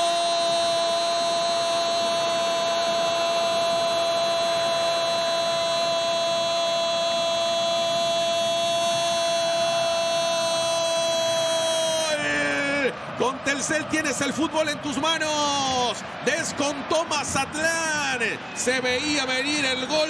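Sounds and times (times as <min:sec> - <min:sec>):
commentator shouting: 0:00.0 - 0:20.0.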